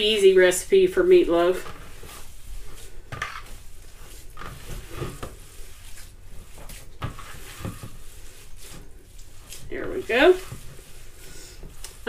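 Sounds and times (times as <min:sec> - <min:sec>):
hands kneading wet ground meat: 0:01.5 - 0:12.0.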